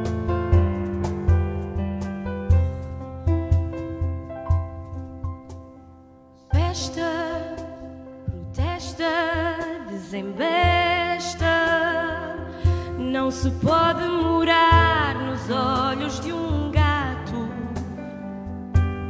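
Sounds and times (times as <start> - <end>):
instrumental accompaniment: 0.0 - 19.0.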